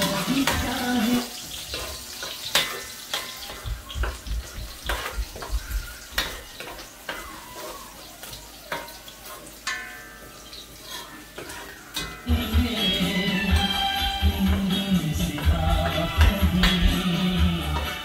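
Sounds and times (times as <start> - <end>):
metal spatula scraping pot: 0.0 - 18.0
onions sizzling in oil: 0.0 - 18.0.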